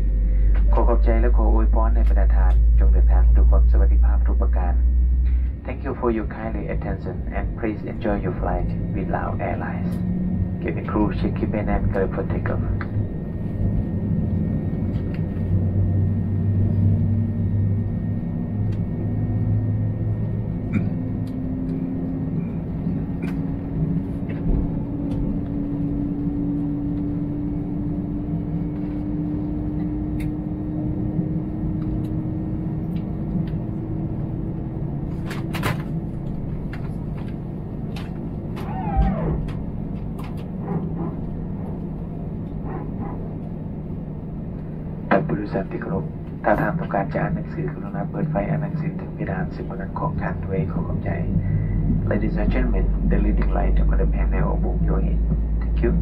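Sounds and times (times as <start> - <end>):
aircraft cabin engine hum: 0.0 - 56.0.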